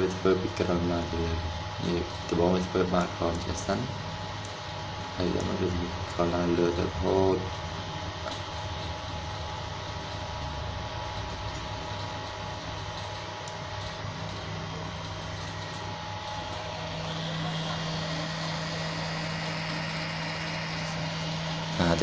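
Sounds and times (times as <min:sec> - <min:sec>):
high motor whine: 0:00.0 - 0:22.0
printer mechanical hum: 0:00.0 - 0:22.0.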